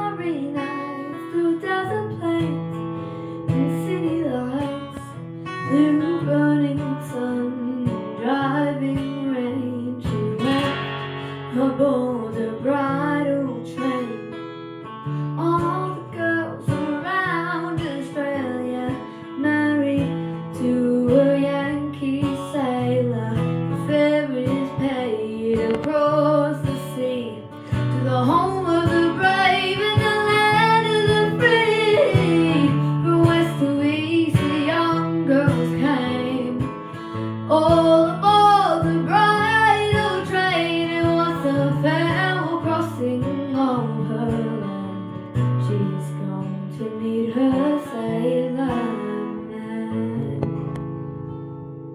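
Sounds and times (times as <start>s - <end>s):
strummed acoustic guitar: 0.0s - 51.9s.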